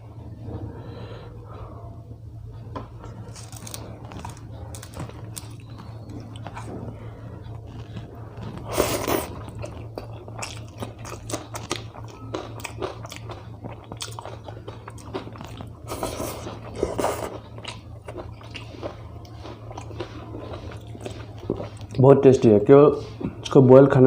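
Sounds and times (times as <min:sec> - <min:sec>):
person chewing food: 0:02.5 - 0:22.1.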